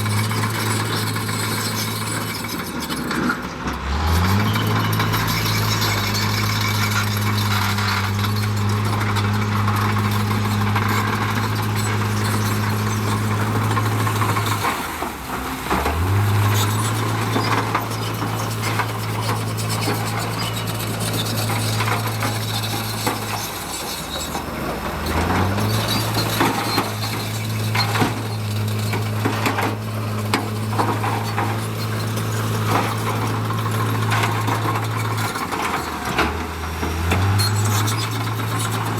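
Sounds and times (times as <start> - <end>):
heavy diesel engine revving: 0.0 - 38.9
metal clanks and scrapes: 0.0 - 38.9.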